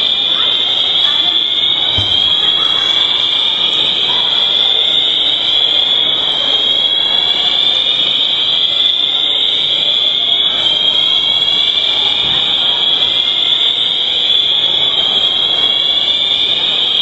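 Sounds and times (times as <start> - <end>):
continuous high-pitched fire alarm: 0.0 - 17.0.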